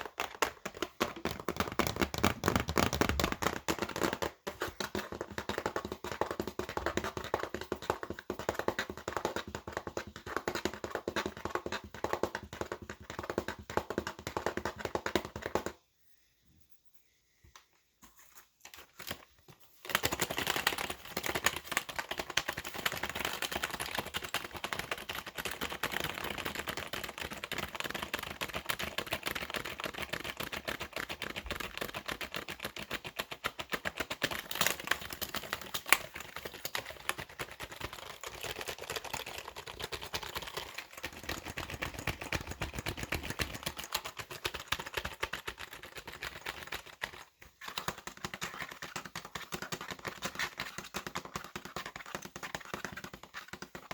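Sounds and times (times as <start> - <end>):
fast typing on keyboard: 0.0 - 15.8, 19.8 - 53.9.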